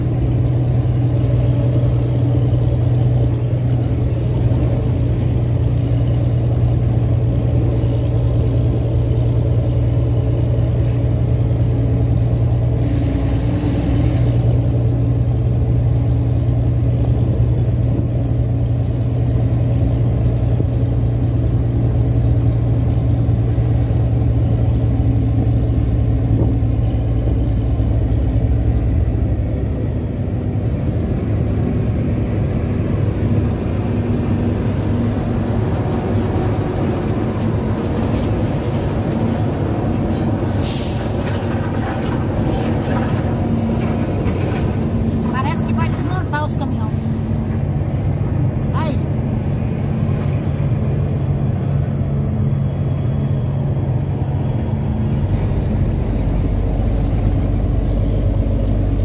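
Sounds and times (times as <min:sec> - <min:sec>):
road noise: 0:00.0 - 0:59.0
truck diesel engine running: 0:00.0 - 0:59.0.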